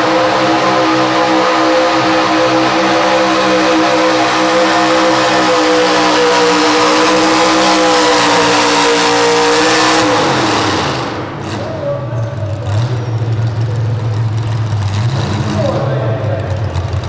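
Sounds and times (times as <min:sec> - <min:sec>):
engine idling: 0:00.0 - 0:17.0
truck engine at high revs: 0:00.0 - 0:17.0.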